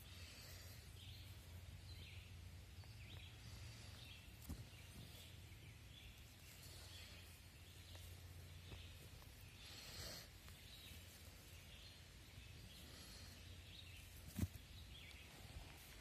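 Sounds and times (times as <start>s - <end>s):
soft rustle: 0.0s - 16.0s.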